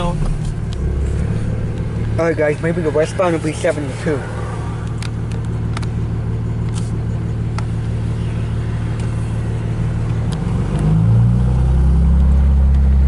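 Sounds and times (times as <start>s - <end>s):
truck engine idling: 0.0s - 10.7s.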